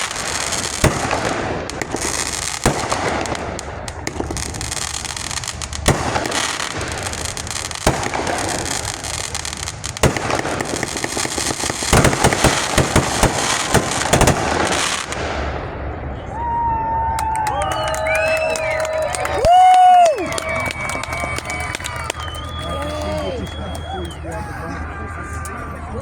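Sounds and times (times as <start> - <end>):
fireworks banging and crackling: 0.0 - 16.3, 17.3 - 26.0.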